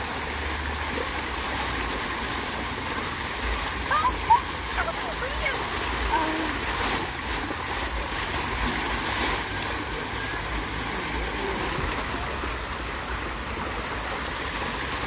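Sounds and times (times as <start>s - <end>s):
fountain water spraying: 0.0s - 15.0s.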